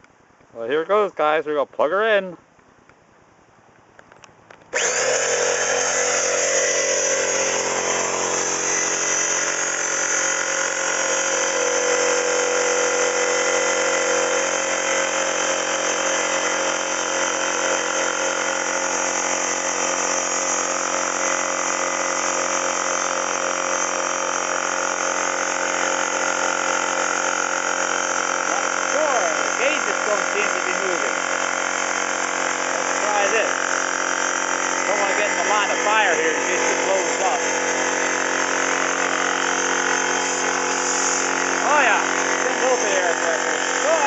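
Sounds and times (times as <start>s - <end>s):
air compressor whining: 4.7s - 44.0s.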